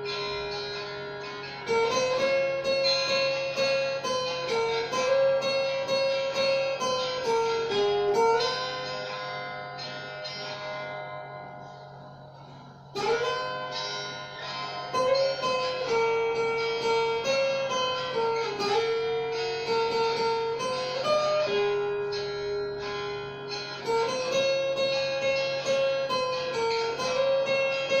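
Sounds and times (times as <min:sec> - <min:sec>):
guitar picked melody: 0:00.0 - 0:28.0.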